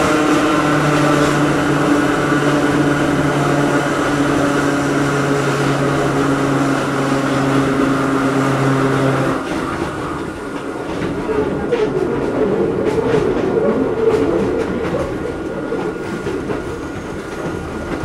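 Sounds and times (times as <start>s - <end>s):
train traction motors humming: 0.0s - 18.0s
wheels on rail: 0.0s - 18.0s.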